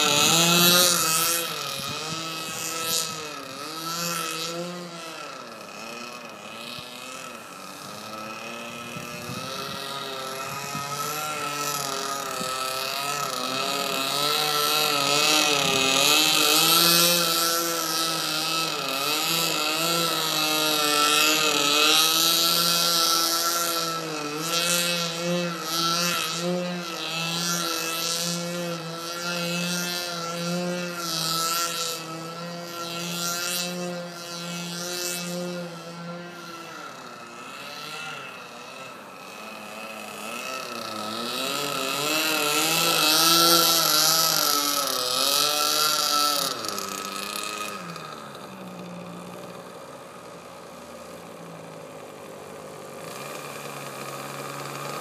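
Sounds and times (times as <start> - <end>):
model plane engine in flight: 0.0 - 55.0.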